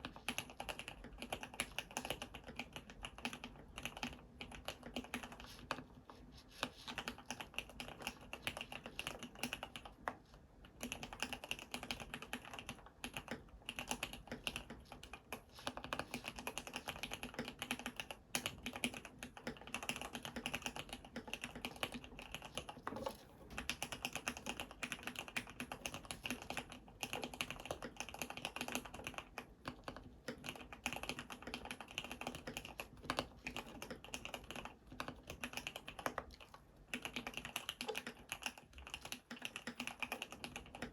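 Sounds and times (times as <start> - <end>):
mechanical keyboard typing: 0.0 - 6.0, 6.6 - 40.9.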